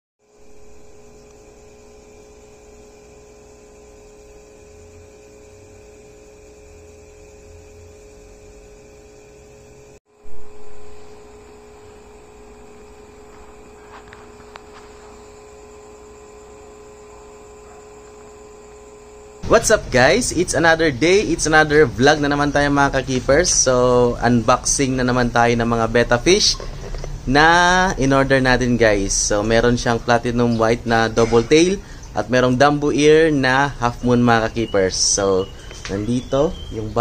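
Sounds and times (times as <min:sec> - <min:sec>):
electrical hum: 0:00.2 - 0:37.0.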